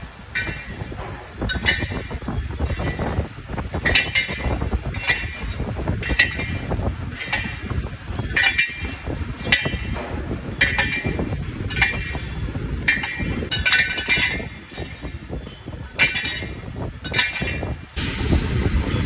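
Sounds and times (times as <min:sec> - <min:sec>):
lathe tool metallic ring: 0:00.0 - 0:18.0
lathe drive rumble: 0:00.0 - 0:19.0.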